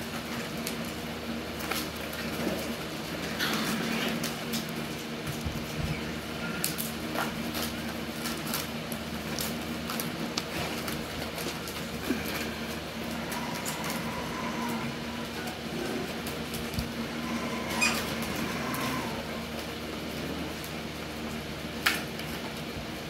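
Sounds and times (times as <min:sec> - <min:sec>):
paws scrabbling on pellet litter: 0:00.0 - 0:23.0
steady low hum: 0:00.0 - 0:23.0.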